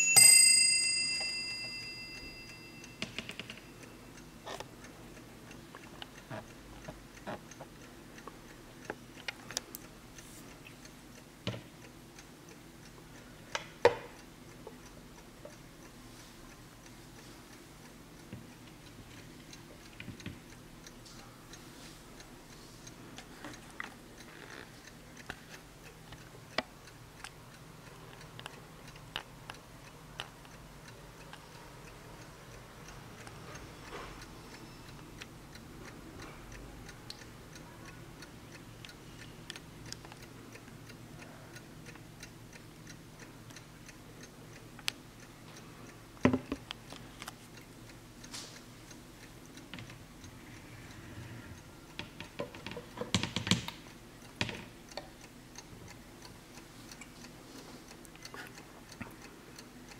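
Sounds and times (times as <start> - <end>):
clock ticking: 0.2 - 59.9.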